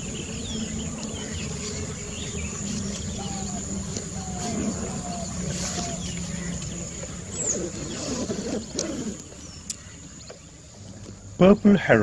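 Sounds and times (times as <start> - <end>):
high-pitched hum: 0.0 - 10.2
wavering bird calls: 0.0 - 11.4.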